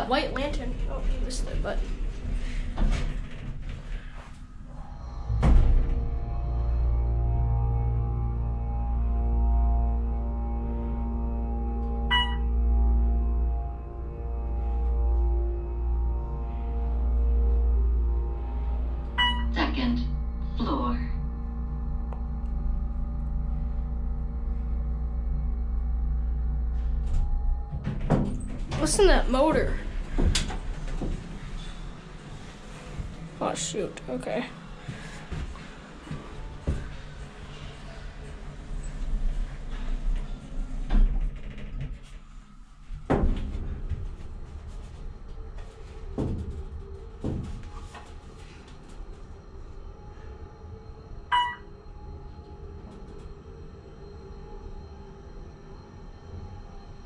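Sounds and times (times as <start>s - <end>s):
elevator machinery humming: 0.0s - 57.0s.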